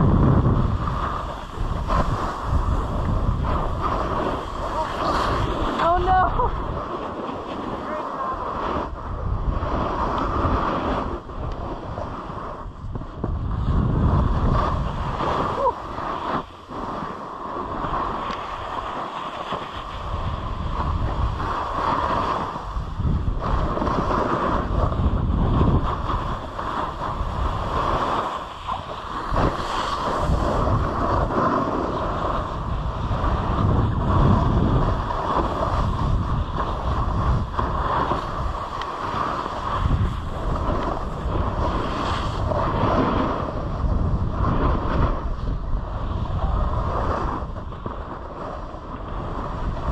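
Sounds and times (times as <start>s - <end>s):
snowboard scraping over snow: 0.0s - 49.9s
wind buffeting microphone: 0.0s - 49.9s.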